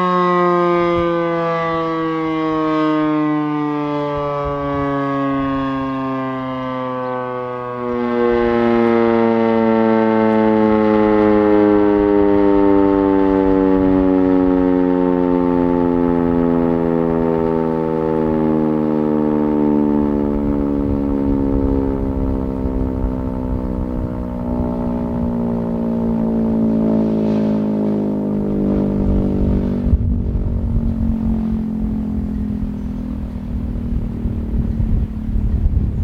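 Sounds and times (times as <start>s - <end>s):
warning siren: 0.0s - 36.0s.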